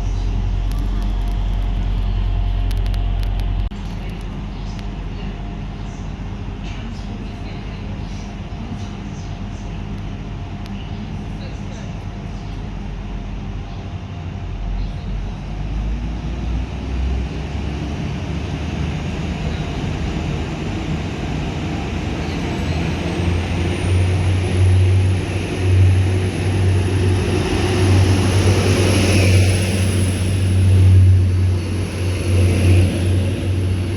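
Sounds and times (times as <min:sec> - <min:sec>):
train diesel engine hum: 0:00.0 - 0:33.9.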